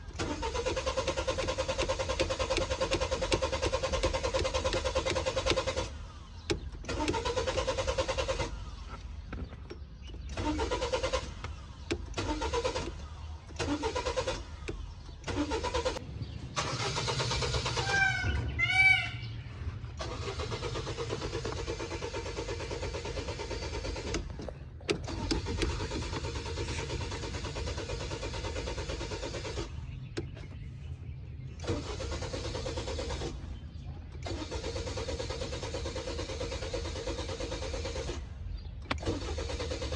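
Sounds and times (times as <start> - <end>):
car engine cranking on starter: 0.0 - 18.4, 19.7 - 39.9.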